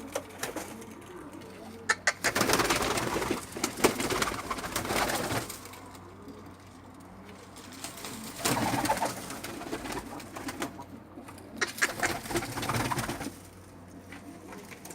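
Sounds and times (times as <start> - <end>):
birds calling: 0.0 - 14.6.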